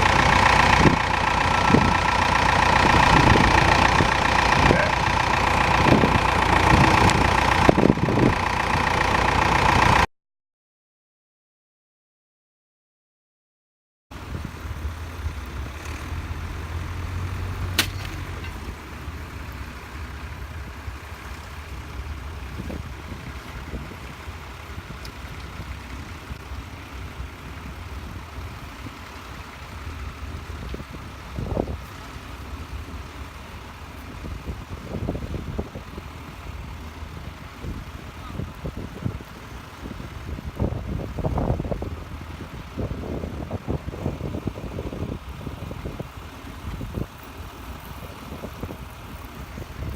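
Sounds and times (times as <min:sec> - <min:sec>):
diesel tractor engine rumbling: 0:00.0 - 0:10.1, 0:14.1 - 0:49.9.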